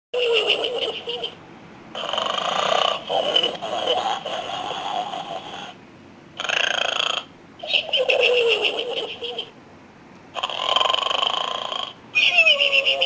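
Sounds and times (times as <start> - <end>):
toy pig snoring: 0.2 - 5.8, 6.4 - 9.5, 10.3 - 13.0.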